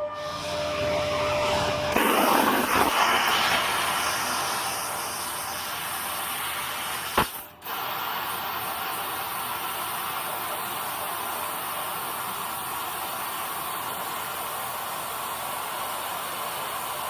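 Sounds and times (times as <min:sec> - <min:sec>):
laser cutter hissing: 0:00.2 - 0:17.0.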